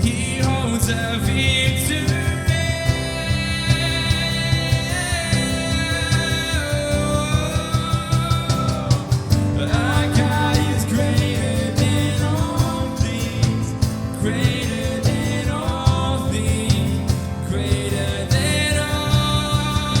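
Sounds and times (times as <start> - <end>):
bass: 0.0 - 20.0
sung melody: 0.0 - 20.0
worship band music: 0.0 - 20.0.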